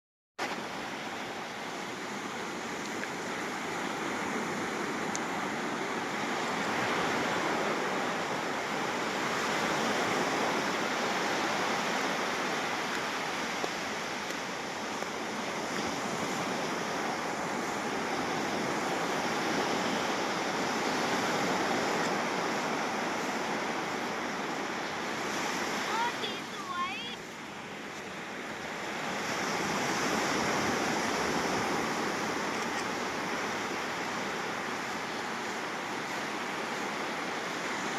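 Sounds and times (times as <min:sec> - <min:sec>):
sea surf washing onto beach: 0:00.4 - 0:37.9.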